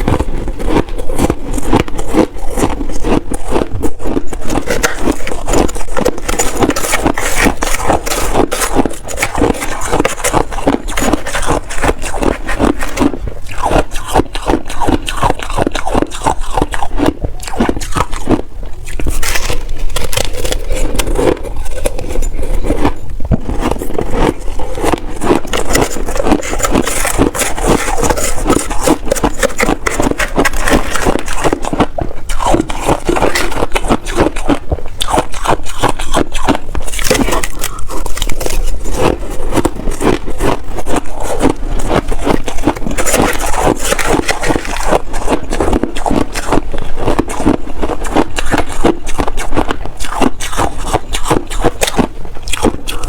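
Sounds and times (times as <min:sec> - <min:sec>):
shaved ice being chewed: 0:00.0 - 0:53.0.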